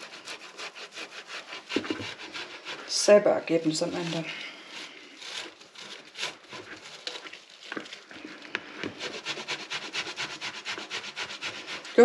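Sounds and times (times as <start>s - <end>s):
potatoes rasping on a grater: 0.0s - 12.0s.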